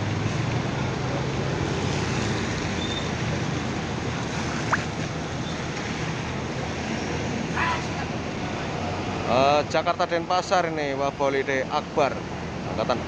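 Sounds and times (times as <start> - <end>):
bus engines running: 0.0 - 13.0
traffic noise: 0.0 - 13.0.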